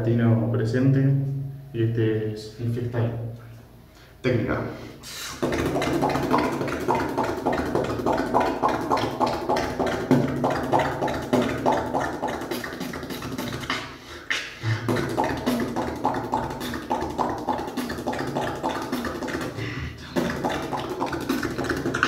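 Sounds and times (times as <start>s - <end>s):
beatbox drum patterns: 4.1s - 22.0s.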